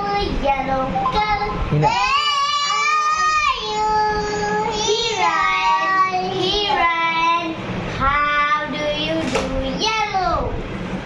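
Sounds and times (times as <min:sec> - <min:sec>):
child singing: 0:00.0 - 0:10.5.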